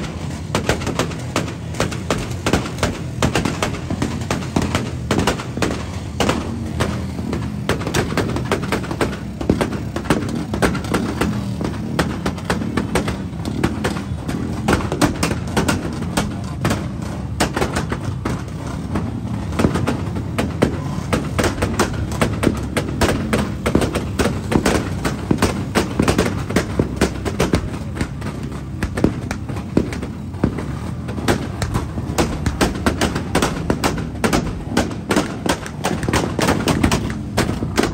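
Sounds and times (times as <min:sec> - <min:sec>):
firecrackers going off: 0:00.0 - 0:37.9.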